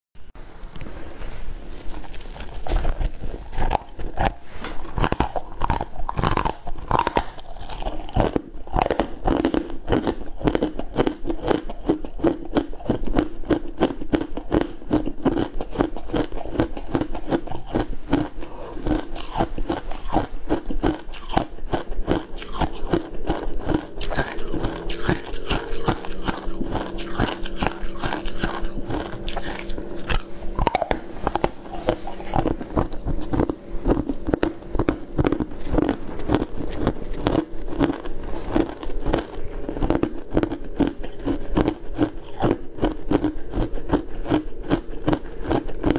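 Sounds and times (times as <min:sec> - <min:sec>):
crunching and chewing ice: 0:01.6 - 0:45.9.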